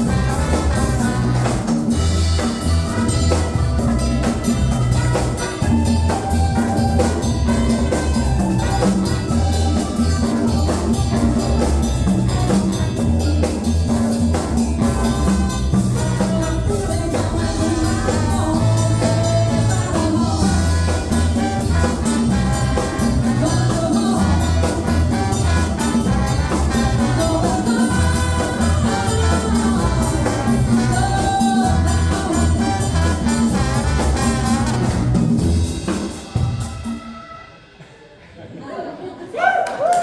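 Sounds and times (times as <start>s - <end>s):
band music with brass and drums: 0.0s - 38.0s.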